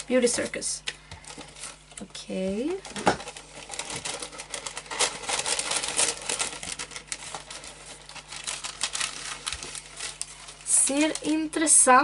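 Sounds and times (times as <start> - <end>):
paper rustling and crinkling: 1.2 - 11.7.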